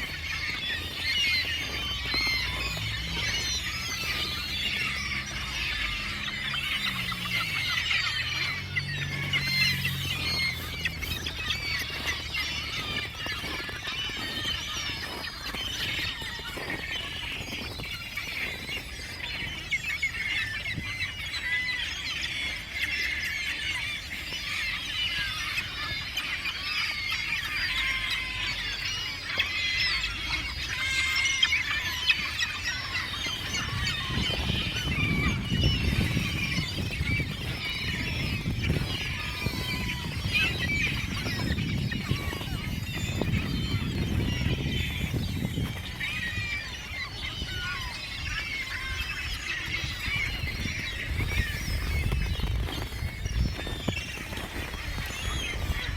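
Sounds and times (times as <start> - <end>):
gulls and ducks calling: 0.0 - 55.9.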